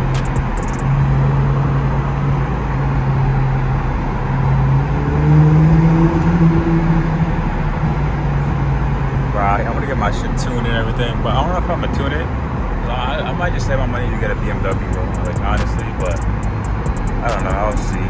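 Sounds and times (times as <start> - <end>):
car exhaust droning: 0.0 - 18.0.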